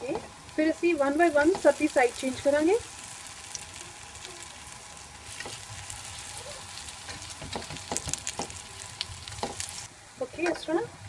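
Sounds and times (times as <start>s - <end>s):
food sizzling in oil: 0.0s - 10.9s
sharp crackles and clicks: 0.4s - 10.6s.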